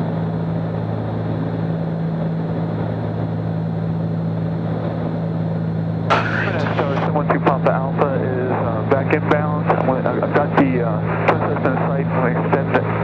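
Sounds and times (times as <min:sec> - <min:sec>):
twin piston engines droning: 0:00.0 - 0:13.0
airflow noise: 0:02.6 - 0:13.0.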